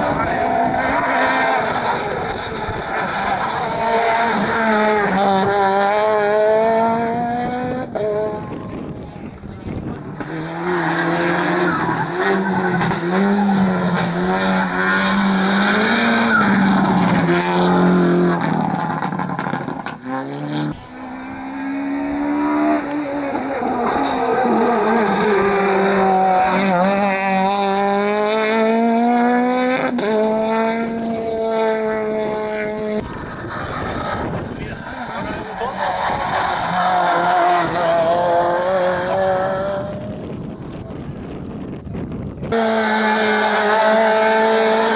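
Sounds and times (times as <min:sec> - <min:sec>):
rally car engine revving: 0:00.0 - 0:44.9
tire noise: 0:00.0 - 0:44.9.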